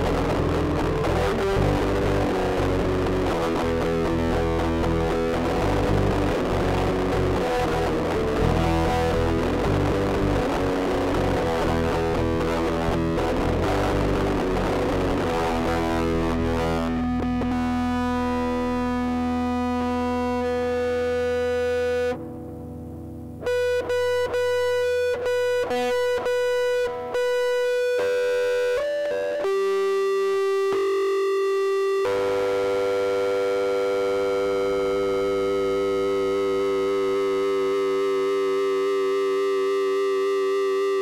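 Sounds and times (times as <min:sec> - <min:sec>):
bass guitar: 0:00.0 - 0:41.0
distorted electric guitar: 0:00.0 - 0:41.0.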